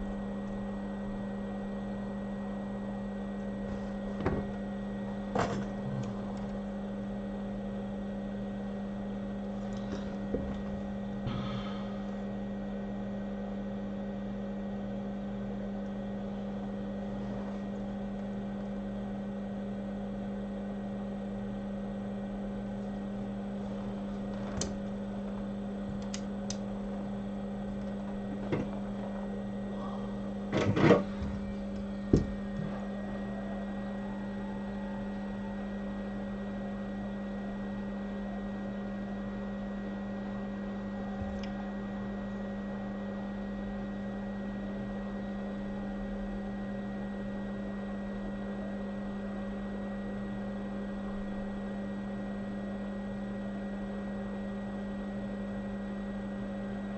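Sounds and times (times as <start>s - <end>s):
electric equipment hum: 0.0s - 56.9s.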